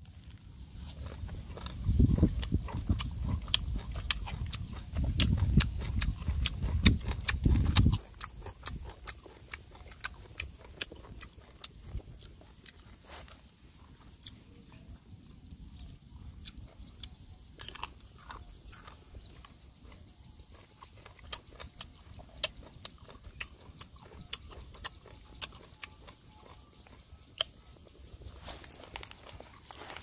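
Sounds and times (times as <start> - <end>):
person chewing wetly: 0.8 - 30.0.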